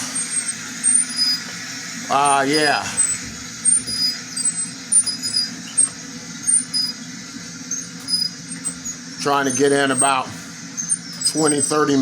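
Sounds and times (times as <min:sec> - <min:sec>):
short high squeaks: 0:00.0 - 0:12.0
treadmill motor hum: 0:00.0 - 0:12.0.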